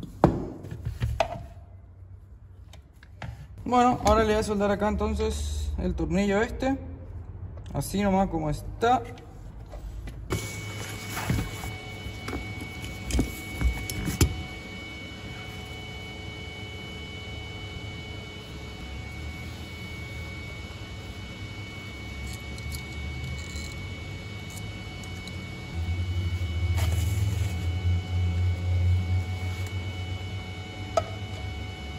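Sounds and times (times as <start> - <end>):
welder electrical hum: 1.4 - 9.4, 10.3 - 31.9.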